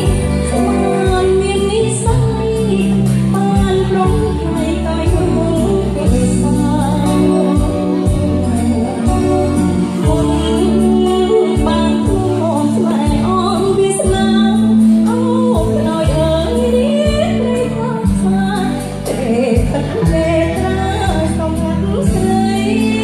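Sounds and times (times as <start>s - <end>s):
amplified backing music: 0.0s - 23.0s
woman singing into microphone: 0.0s - 23.0s.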